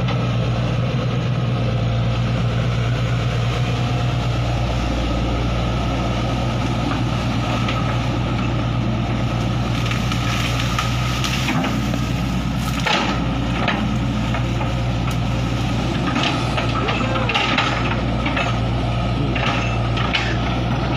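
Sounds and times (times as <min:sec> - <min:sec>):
excavator diesel engine running: 0:00.0 - 0:20.9
trees and brush crackling: 0:00.0 - 0:20.9.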